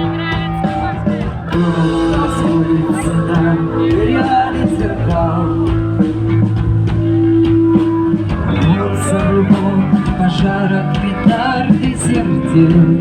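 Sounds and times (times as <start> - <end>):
rock band over loudspeakers: 0.0 - 13.0.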